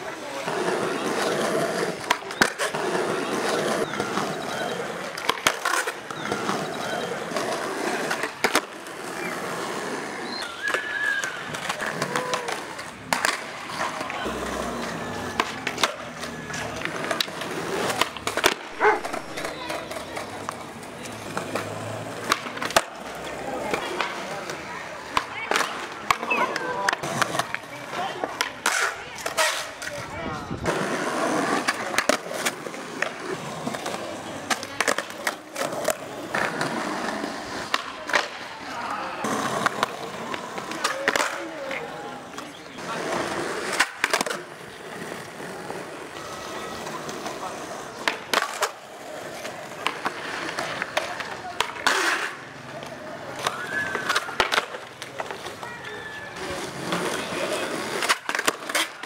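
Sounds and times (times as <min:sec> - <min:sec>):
skateboard clacking on concrete: 0:00.0 - 0:59.0.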